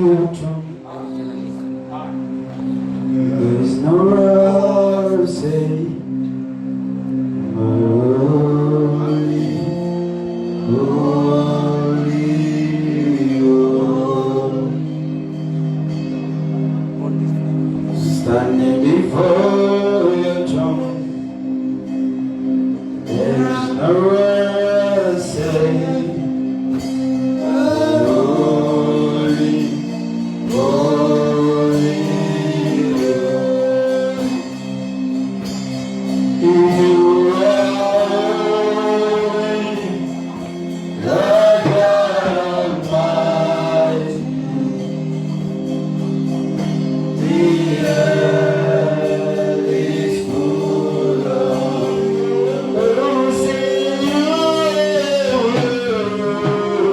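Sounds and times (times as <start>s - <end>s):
sustained keyboard chords: 0.0s - 56.9s
voices singing gospel: 0.0s - 56.9s.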